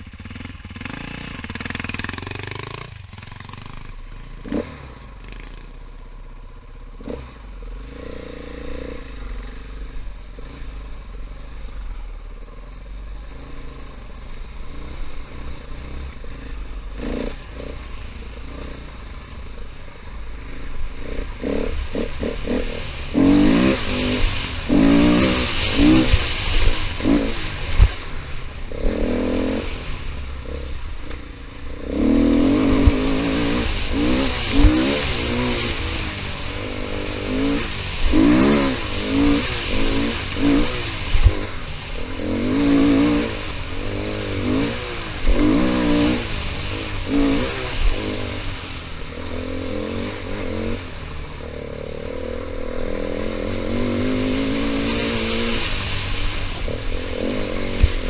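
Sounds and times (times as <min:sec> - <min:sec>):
dirt bike engine revving: 0:00.0 - 0:05.8, 0:07.0 - 0:11.5, 0:13.2 - 0:58.0.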